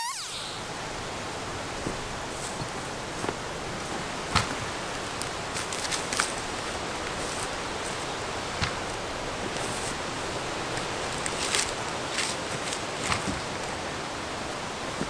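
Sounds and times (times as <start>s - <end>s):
outdoor hiss: 0.0s - 15.0s
bark and wood rustling: 1.8s - 15.0s.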